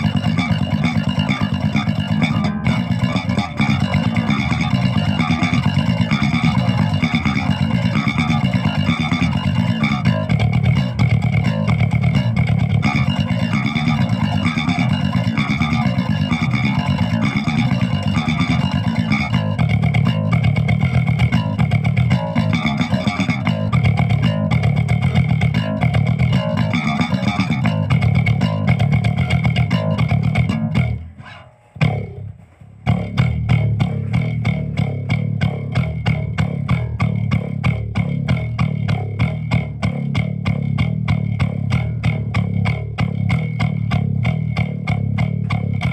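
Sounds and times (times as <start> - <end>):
electric bass guitar riff: 0.0 - 45.9.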